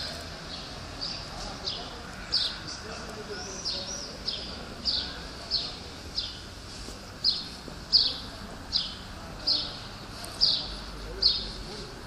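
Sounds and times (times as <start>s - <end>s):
small bird chirping: 0.0s - 6.5s, 7.2s - 11.6s.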